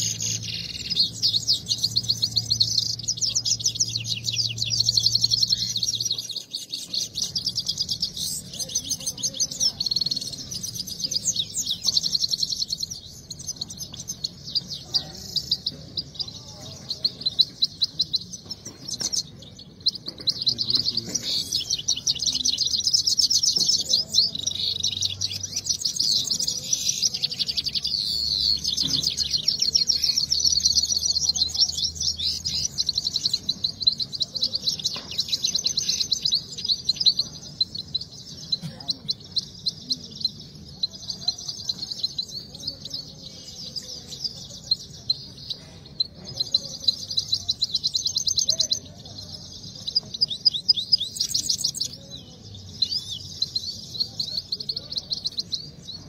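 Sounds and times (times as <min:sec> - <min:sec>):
finch singing high twittering song: 0:00.0 - 0:56.0.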